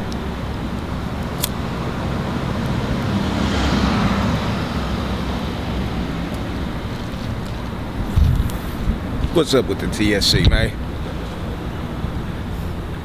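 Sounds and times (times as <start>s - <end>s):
road traffic: 0.0s - 13.0s
vehicle passing: 0.4s - 13.0s.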